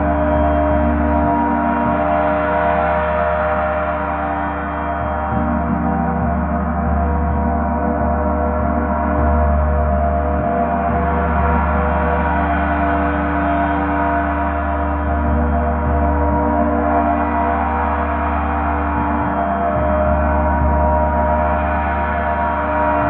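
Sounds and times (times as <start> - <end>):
gong sounding continuously: 0.0 - 23.0.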